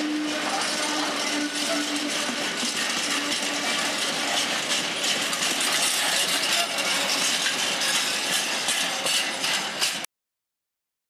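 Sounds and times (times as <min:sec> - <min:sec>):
freight train wheels on rails: 0:00.0 - 0:10.1.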